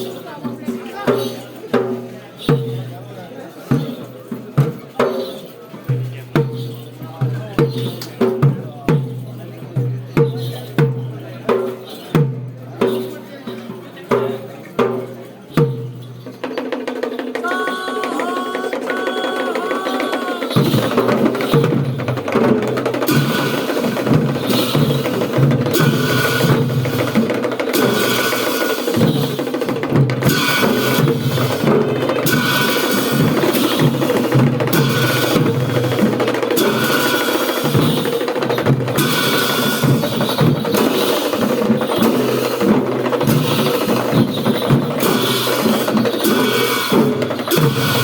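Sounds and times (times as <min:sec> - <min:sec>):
drums and percussion beat: 0:00.0 - 0:48.0.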